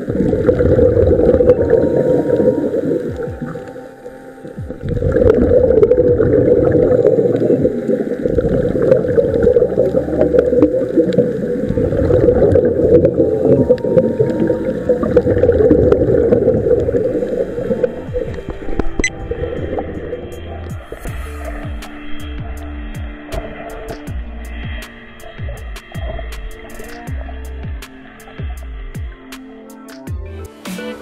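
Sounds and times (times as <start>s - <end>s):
underwater rushing and bubbling: 0.0s - 29.9s
small underwater clicks and crackles: 0.0s - 30.1s.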